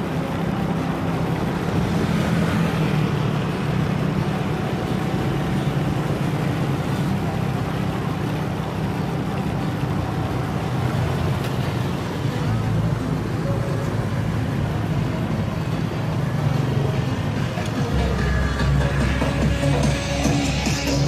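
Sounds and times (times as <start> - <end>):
road noise: 0.0 - 21.0
traffic engine drone: 0.0 - 21.0.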